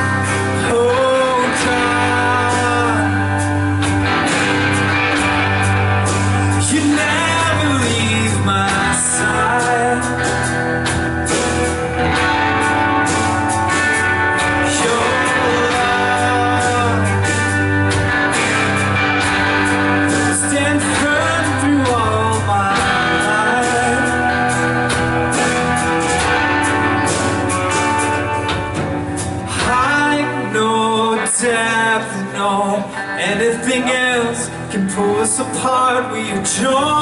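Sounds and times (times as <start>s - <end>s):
person singing: 0.0s - 4.1s, 6.2s - 10.6s, 11.9s - 28.6s, 29.3s - 37.0s
worship band playing slow song: 0.0s - 37.0s.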